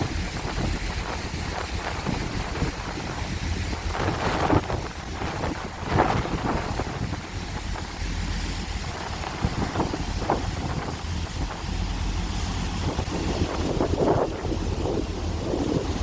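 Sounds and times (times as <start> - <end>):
sea: 0.0 - 16.0
ship engines rumbling: 0.0 - 16.0
wind buffeting microphone: 0.0 - 16.0.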